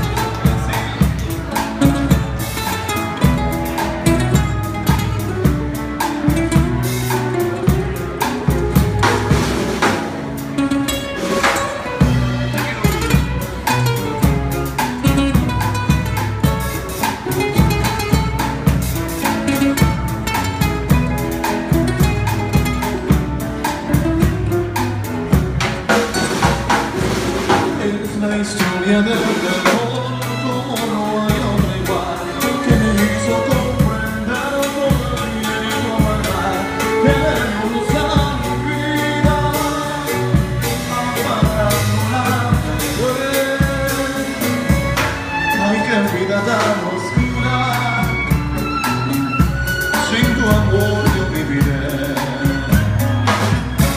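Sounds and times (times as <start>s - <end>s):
acoustic guitars strumming: 0.0s - 53.9s
drum kit beat: 0.0s - 53.9s
violin: 0.0s - 53.9s.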